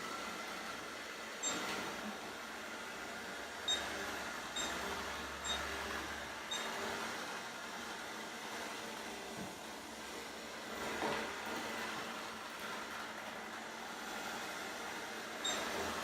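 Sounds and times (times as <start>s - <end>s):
robot vacuum cleaner whirring: 0.0s - 16.0s.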